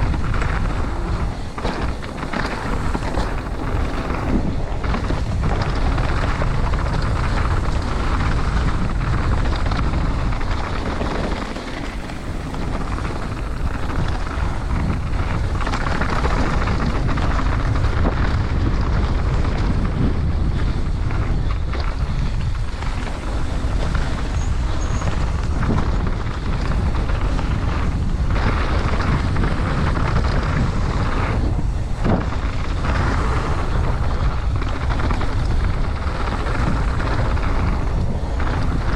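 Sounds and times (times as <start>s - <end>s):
bike knocking over bumps: 0.0s - 38.9s
tyres rumbling on dirt: 0.0s - 38.9s
wind rush on microphone: 0.0s - 38.9s.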